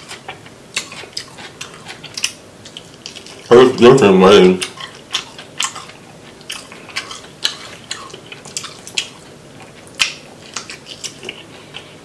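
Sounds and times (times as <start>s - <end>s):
person chewing wetly: 0.0s - 3.9s, 4.6s - 12.0s.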